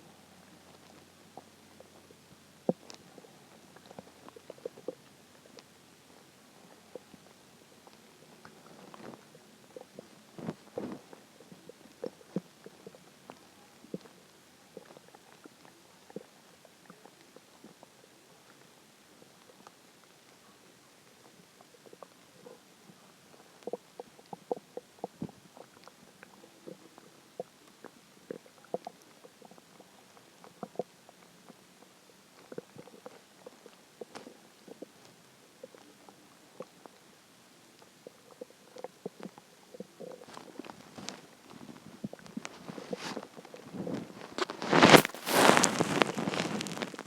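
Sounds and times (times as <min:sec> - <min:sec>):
stomach growling: 0:00.0 - 0:47.0.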